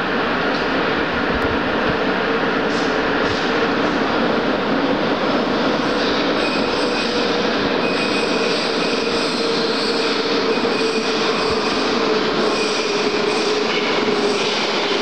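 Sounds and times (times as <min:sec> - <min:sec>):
metro train running noise: 0:00.0 - 0:15.0
train whine: 0:00.0 - 0:15.0.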